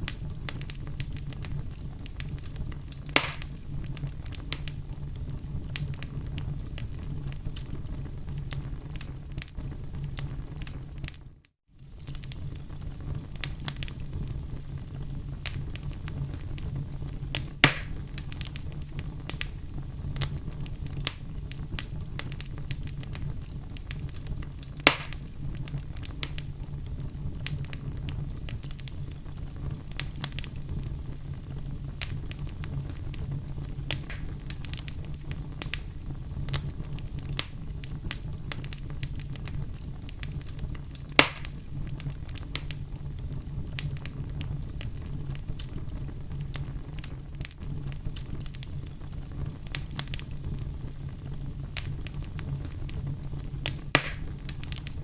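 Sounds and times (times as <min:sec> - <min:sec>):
loud fire pops: 0:00.0 - 0:55.0
low rumble of flame: 0:00.0 - 0:55.0
wood fire crackling: 0:00.0 - 0:55.0.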